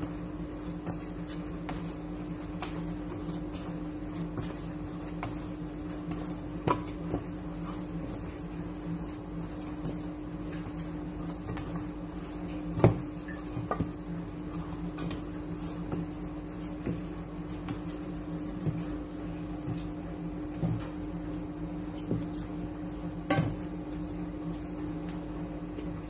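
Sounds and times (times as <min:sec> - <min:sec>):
dough kneaded in metal bowl: 0:00.0 - 0:26.0
steady low hum: 0:00.0 - 0:26.0.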